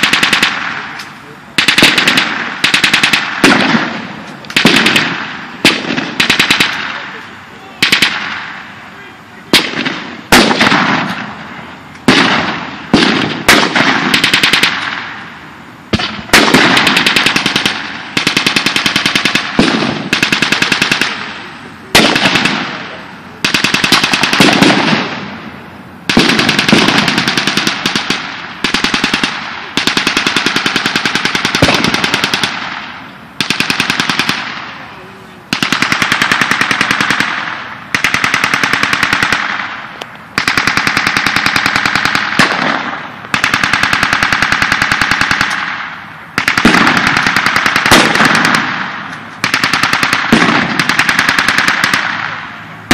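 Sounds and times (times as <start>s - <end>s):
machine guns firing bursts: 0.0s - 1.0s, 1.6s - 8.8s, 9.5s - 11.4s, 12.0s - 15.2s, 15.9s - 25.4s, 26.1s - 52.9s
single gunshots: 0.0s - 8.7s, 9.5s - 15.3s, 15.9s - 25.5s, 26.1s - 52.9s.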